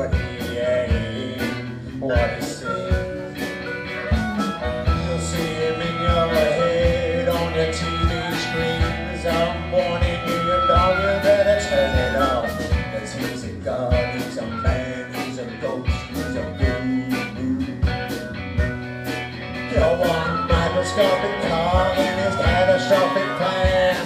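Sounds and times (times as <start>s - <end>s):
bass: 0.0s - 24.0s
drum beat: 0.0s - 24.0s
electric guitar: 0.0s - 24.0s
harmonica lead: 0.0s - 24.0s.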